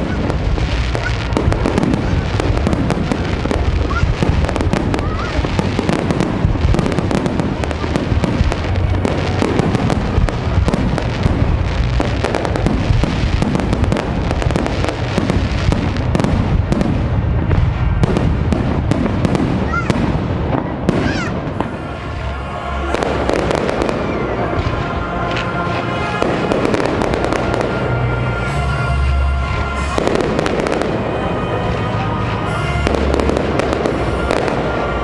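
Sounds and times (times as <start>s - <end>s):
fireworks bangs and crackling: 0.0s - 35.0s
rising firework whistle: 0.0s - 35.0s.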